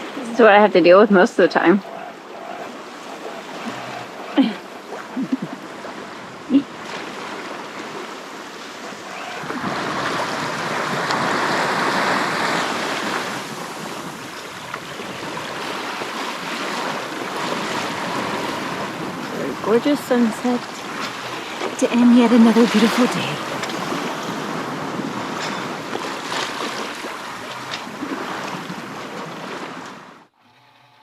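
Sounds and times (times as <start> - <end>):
water rushing along a hull: 0.0 - 30.4.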